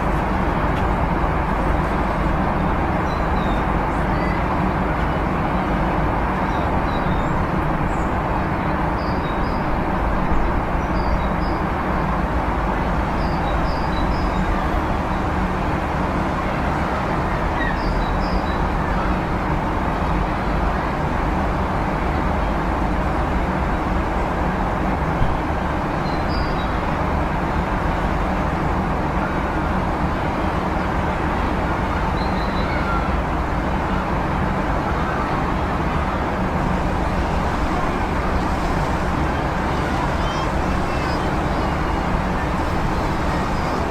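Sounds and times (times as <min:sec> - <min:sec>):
rumble of passing vehicles: 0:00.0 - 0:43.9.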